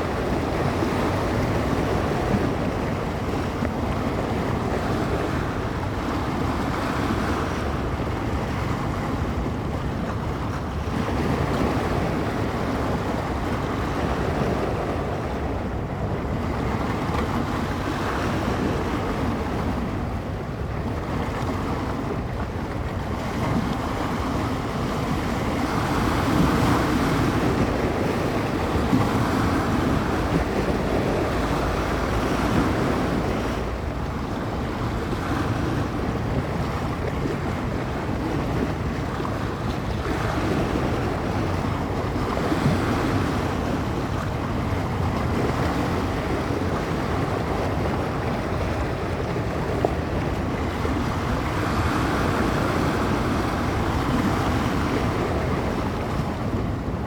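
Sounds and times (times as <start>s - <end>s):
waves breaking on shore: 0.0s - 57.0s
wind buffeting microphone: 0.0s - 57.0s.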